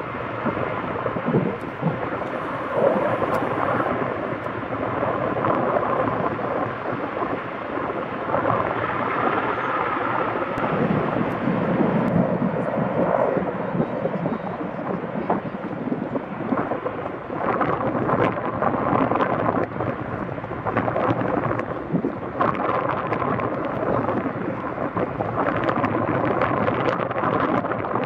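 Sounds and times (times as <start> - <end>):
helicopter in flight: 0.0 - 28.0.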